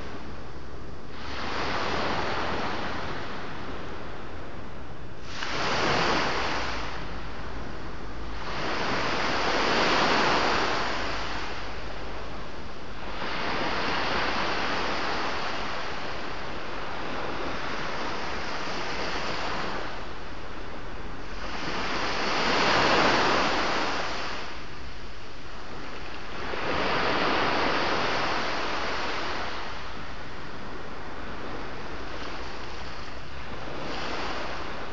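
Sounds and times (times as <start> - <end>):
sea waves breaking on beach: 1.1 - 34.9.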